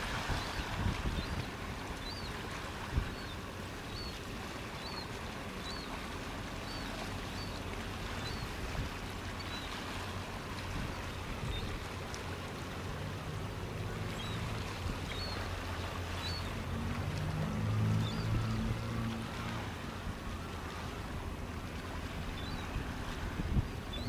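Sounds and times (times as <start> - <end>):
seawater rushing between rocks: 0.0 - 24.0.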